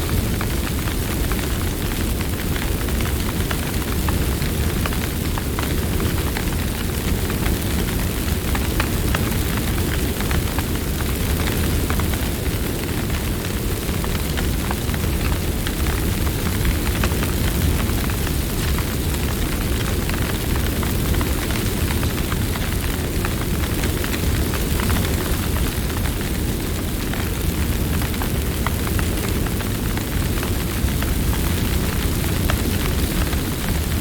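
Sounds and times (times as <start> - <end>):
campfire flames rushing: 0.0 - 34.0
fire crackling and popping: 0.0 - 34.0.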